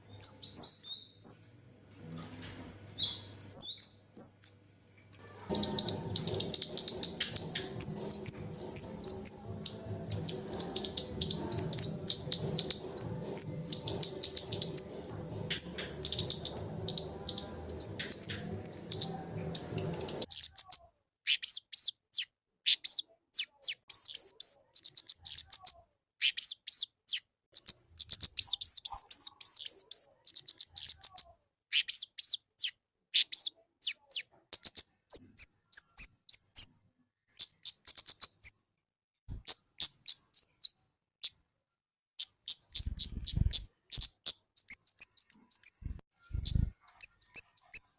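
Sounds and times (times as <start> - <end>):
songbird chirping and trilling: 0.0 - 1.8, 2.5 - 38.7, 39.4 - 41.4, 42.2 - 47.9.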